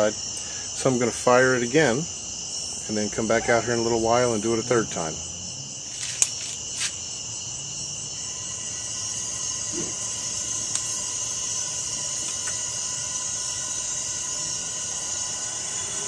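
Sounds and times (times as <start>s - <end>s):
gas burner hissing: 0.0s - 5.2s, 5.8s - 16.0s.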